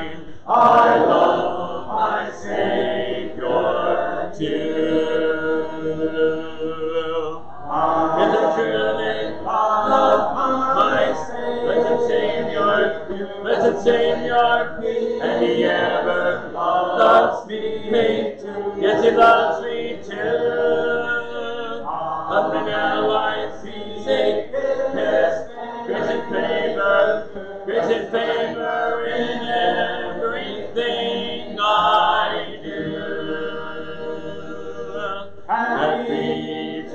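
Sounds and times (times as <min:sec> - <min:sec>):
congregation singing a hymn: 0:00.0 - 0:36.9.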